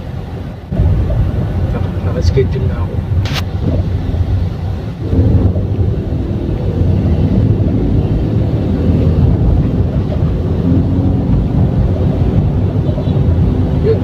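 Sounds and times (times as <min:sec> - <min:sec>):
road and tyre rumble in car: 0:00.0 - 0:14.0.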